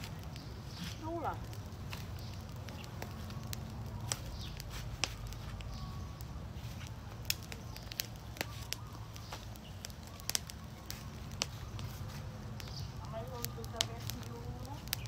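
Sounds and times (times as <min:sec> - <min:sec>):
fire crackling and popping: 0:00.0 - 0:15.0
low background noise: 0:00.0 - 0:15.0.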